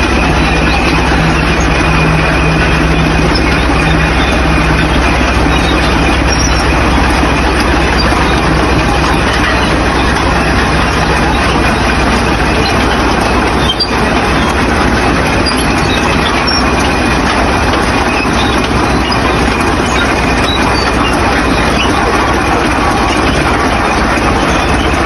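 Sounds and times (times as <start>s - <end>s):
low hum: 0.0s - 25.0s
road noise: 0.0s - 25.0s
vehicle engine rumble: 0.0s - 25.0s.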